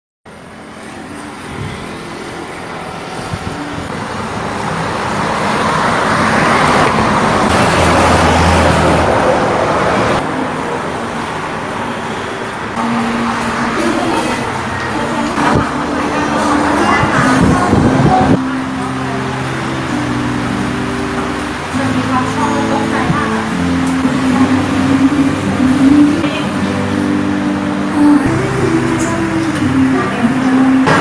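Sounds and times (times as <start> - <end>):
vehicle passing close by: 1.0 - 31.0.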